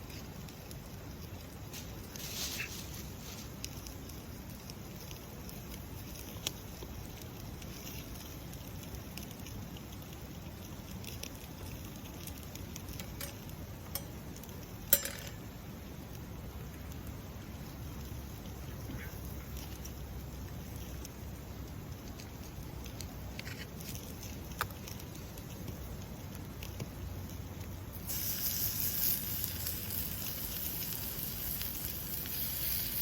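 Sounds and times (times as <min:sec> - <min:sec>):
campfire crackling: 0:00.0 - 0:33.0
campfire pop: 0:00.0 - 0:33.0.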